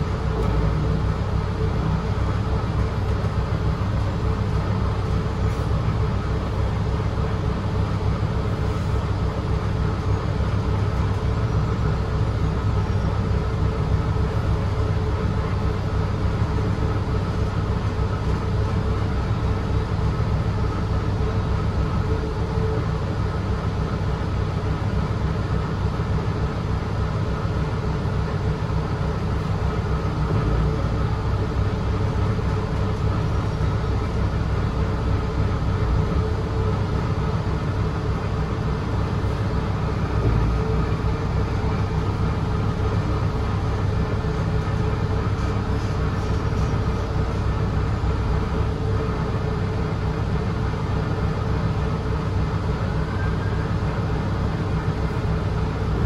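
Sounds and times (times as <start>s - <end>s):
bus engine and road rumble: 0.0s - 56.0s
mid-pitched hum: 0.0s - 56.0s.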